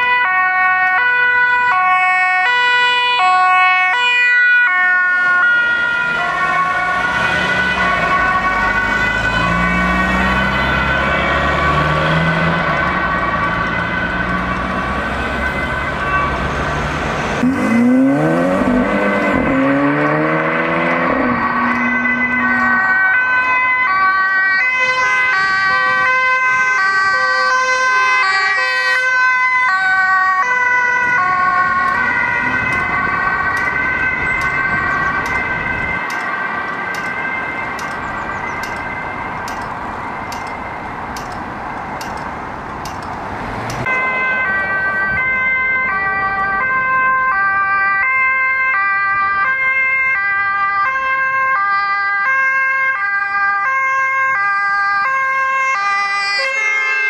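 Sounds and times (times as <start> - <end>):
two-tone ambulance siren: 0.0 - 43.0, 43.6 - 57.0
passing traffic: 0.0 - 57.0.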